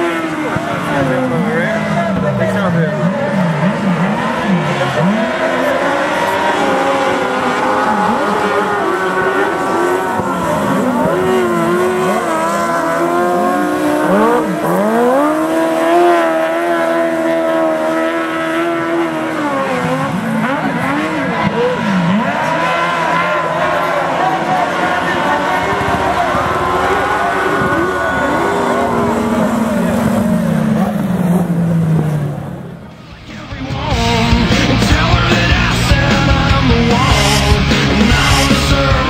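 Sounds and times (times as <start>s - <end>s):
sidecar motorcycle engines racing: 0.0s - 39.0s.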